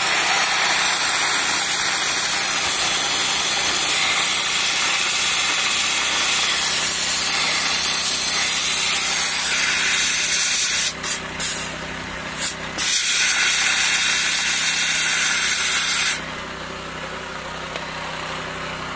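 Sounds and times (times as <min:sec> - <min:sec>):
dry ice blaster hissing: 0:00.0 - 0:16.2
engine running: 0:00.0 - 0:18.9.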